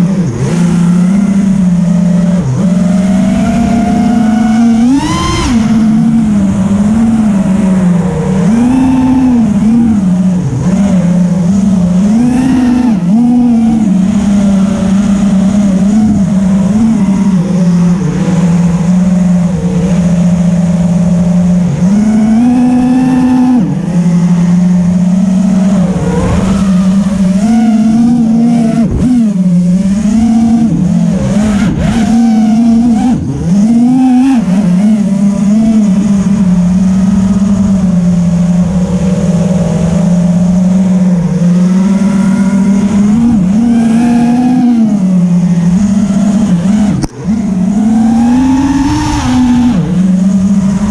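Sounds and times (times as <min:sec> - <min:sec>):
quadcopter motors buzzing: 0:00.0 - 0:50.9.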